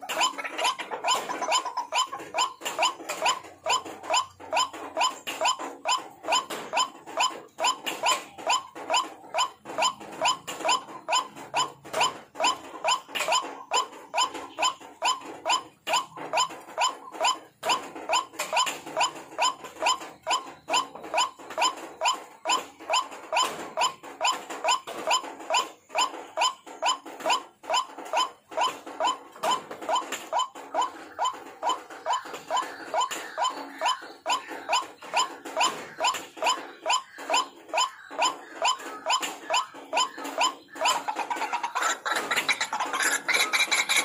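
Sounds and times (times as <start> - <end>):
waterhen calling: 0.0 - 44.0.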